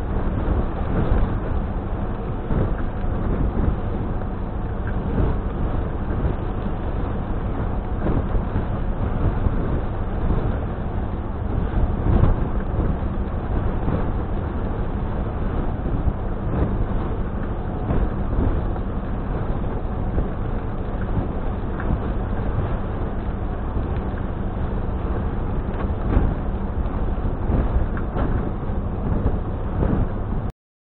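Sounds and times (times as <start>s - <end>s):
constant hum: 0.0s - 30.5s
low engine rumble: 0.0s - 30.5s.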